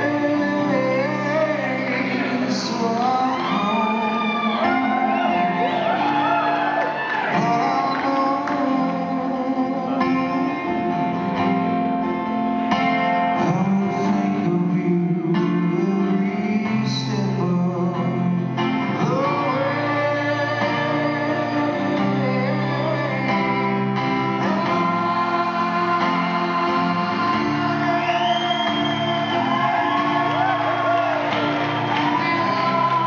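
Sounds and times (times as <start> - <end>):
man singing: 0.0 - 5.6, 7.2 - 11.4, 13.1 - 33.0
acoustic guitar strumming: 0.0 - 33.0.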